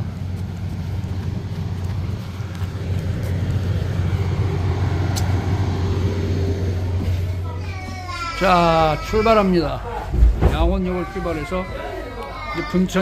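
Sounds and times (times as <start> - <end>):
diesel locomotive idling: 0.0 - 13.0.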